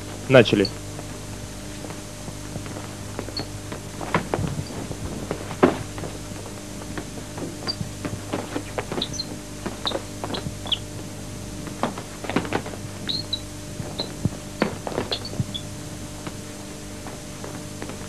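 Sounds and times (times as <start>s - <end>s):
scuffing footwork: 0.7s - 18.0s
sneakers squeaking on mat: 1.8s - 18.0s.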